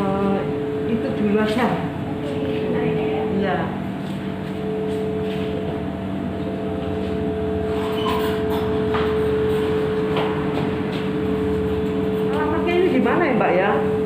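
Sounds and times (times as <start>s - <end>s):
higher tone: 0.0s - 14.0s
machine hum with mid-pitched tone: 0.0s - 14.0s.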